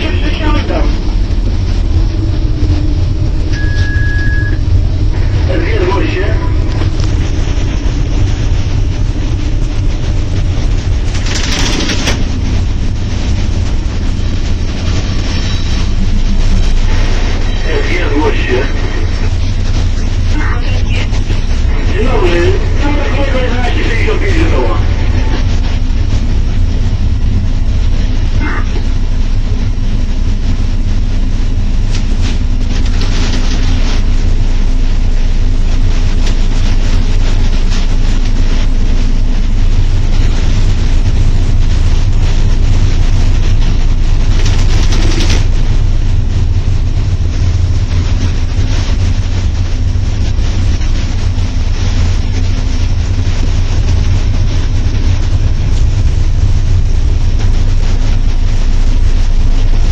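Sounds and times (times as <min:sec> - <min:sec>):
electric locomotive rumbling: 0:00.0 - 0:59.9.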